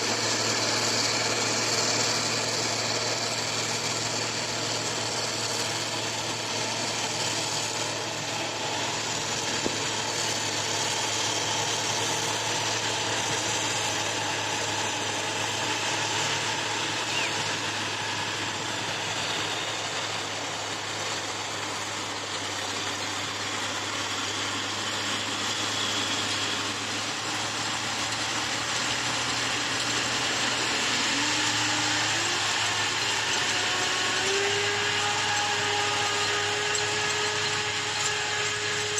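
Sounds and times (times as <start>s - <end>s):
combine harvester running: 0.0s - 38.9s
machinery whine: 0.0s - 38.9s.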